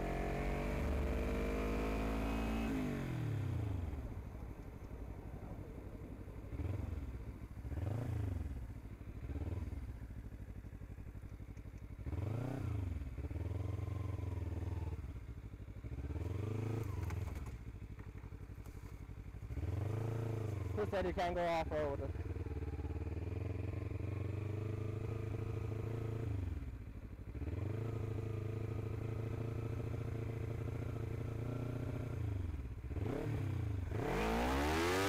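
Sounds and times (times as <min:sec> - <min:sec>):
motorcycle engine revving: 0:00.0 - 0:04.2, 0:06.3 - 0:35.0.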